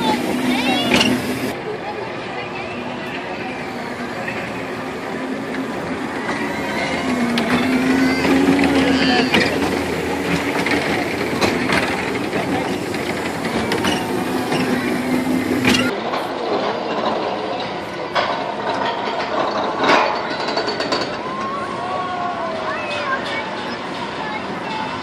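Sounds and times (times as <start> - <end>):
crowd chatter: 0.0 - 25.0
ride cars clattering on rail track: 0.0 - 25.0
steady mechanical hum: 0.0 - 25.0.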